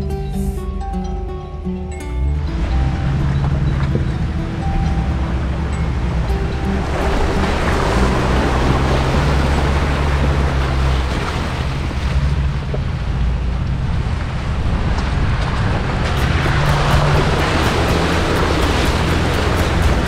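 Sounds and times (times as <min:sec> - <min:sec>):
engine and tyres rumble: 0:00.0 - 0:20.0
wind noise: 0:02.1 - 0:20.0.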